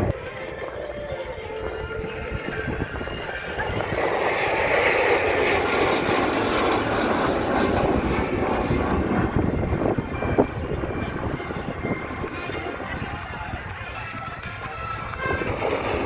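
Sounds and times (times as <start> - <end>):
airplane flying past: 0.0 - 16.0.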